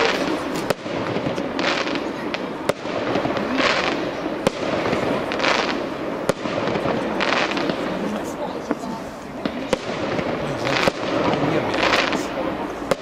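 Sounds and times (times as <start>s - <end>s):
fireworks bangs: 0.0s - 13.0s
fireworks hissing: 0.0s - 13.0s.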